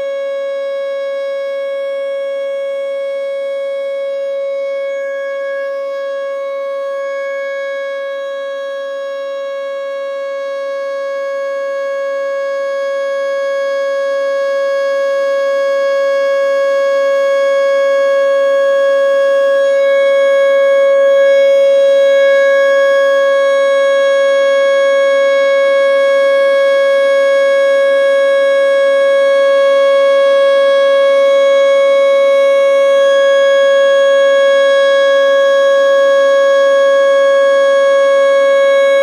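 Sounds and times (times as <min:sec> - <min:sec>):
mechanical warning siren steady tone: 0:00.0 - 0:39.0.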